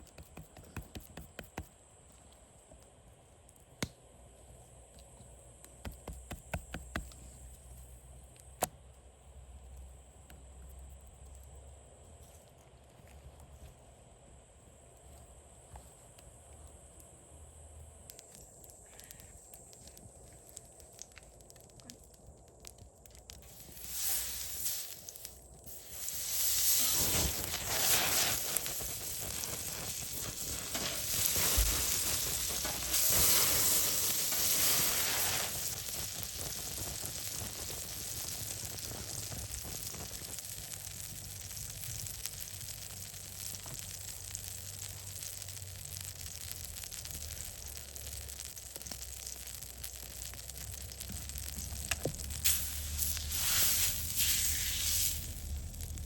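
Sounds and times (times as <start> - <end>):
food sizzling over campfire: 0.0 - 11.8, 15.0 - 56.0.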